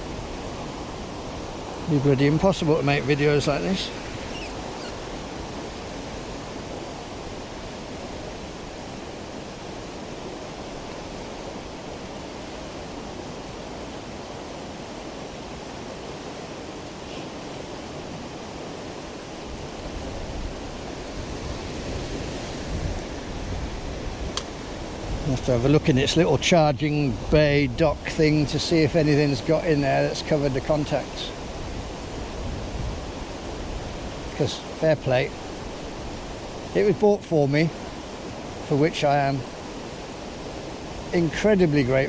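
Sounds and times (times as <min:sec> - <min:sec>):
river rushing: 0:00.0 - 0:42.0.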